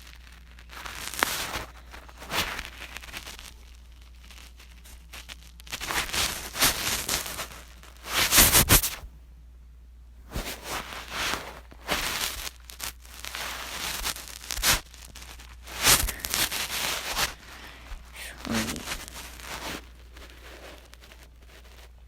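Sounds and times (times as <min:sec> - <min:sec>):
rustling and crinkling: 0:00.0 - 0:09.0, 0:10.3 - 0:22.0.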